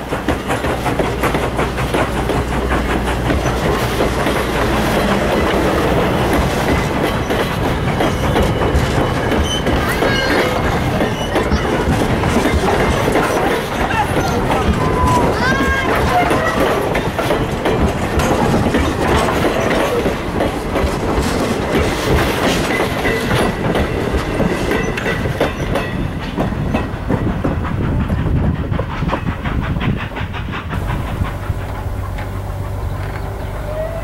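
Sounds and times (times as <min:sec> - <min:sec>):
train low rumble: 0:00.0 - 0:34.0
train wheels clickety-clack: 0:00.0 - 0:34.0.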